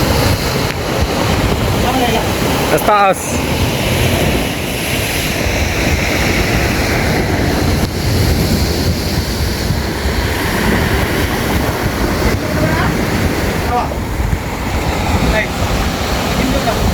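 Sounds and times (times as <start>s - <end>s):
waves washing on stony beach: 0.0s - 16.9s
wind buffeting microphone: 0.0s - 16.9s.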